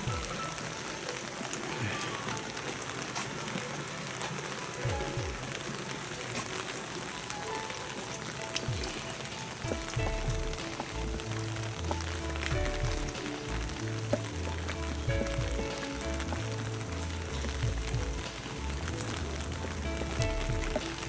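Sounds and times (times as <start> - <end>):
faint background music: 0.0 - 21.0
steady rain: 0.0 - 21.0.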